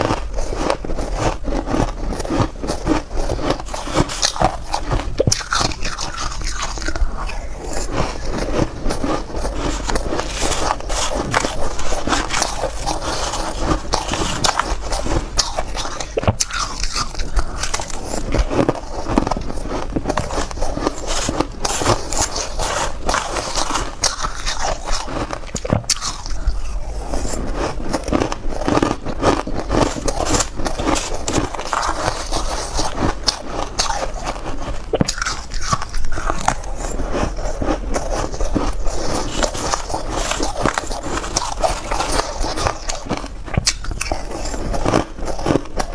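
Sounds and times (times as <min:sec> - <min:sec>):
crunching ice chewing: 0:00.0 - 0:45.9.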